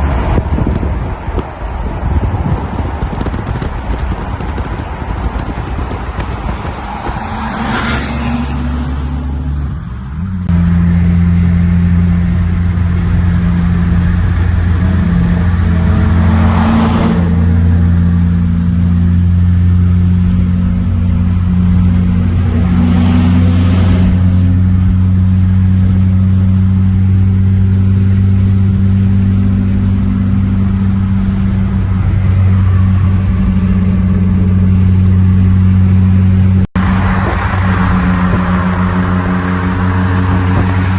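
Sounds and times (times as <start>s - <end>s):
loud car exhaust droning: 0.0s - 40.9s.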